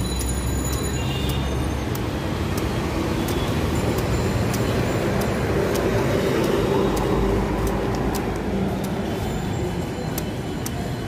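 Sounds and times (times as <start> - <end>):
traffic rumbling: 0.0 - 11.0.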